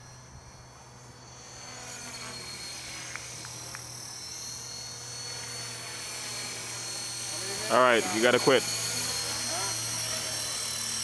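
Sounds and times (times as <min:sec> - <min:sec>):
rc helicopter whine: 0:00.0 - 0:11.0.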